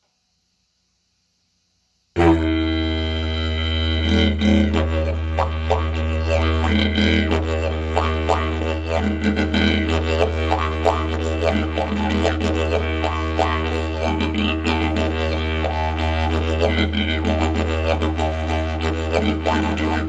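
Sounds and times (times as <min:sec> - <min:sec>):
didgeridoo drone with rhythmic pulses: 0:02.2 - 0:20.0.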